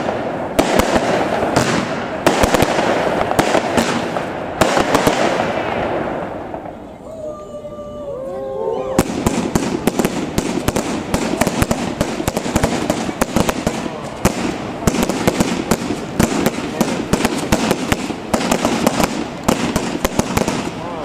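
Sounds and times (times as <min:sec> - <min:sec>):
fireworks bangs and crackles: 0:00.0 - 0:07.3, 0:08.8 - 0:21.0.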